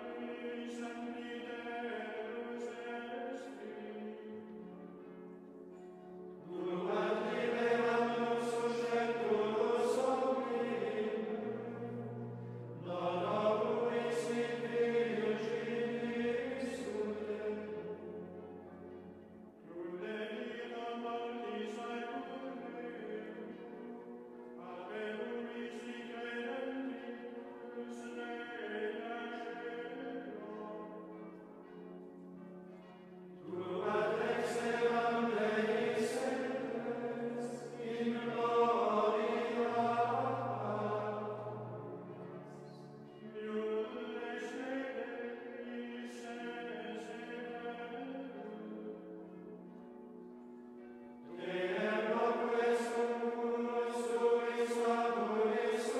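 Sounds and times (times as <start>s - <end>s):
male choir singing chant: 0.0s - 4.4s, 6.4s - 18.2s, 19.7s - 23.8s, 24.6s - 31.0s, 33.5s - 48.8s, 51.3s - 55.9s.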